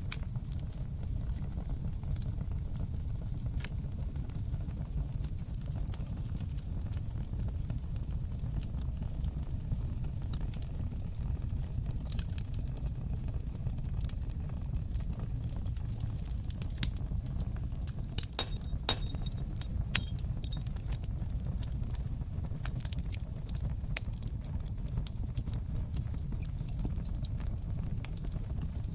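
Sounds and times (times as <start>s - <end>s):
fireplace fire crackling: 0.0s - 28.9s.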